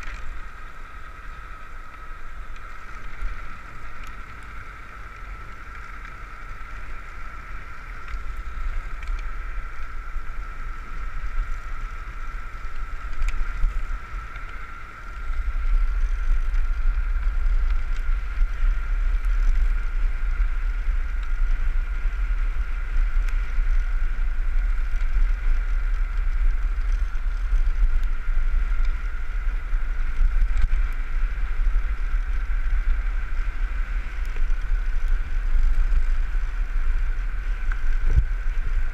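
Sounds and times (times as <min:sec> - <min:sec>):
steady high whine: 0:00.0 - 0:38.9
wind buffeting microphone: 0:00.0 - 0:38.9.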